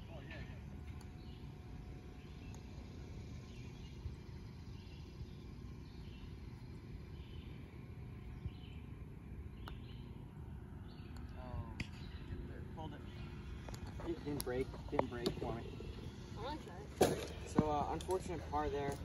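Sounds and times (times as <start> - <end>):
low steady rumble: 0.0 - 19.0
bird chirping: 1.0 - 2.7, 3.4 - 6.4, 7.1 - 19.0.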